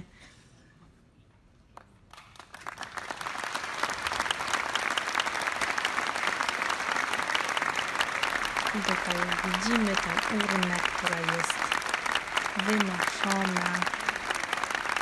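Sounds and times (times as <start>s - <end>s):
audience applauding: 2.1s - 15.0s.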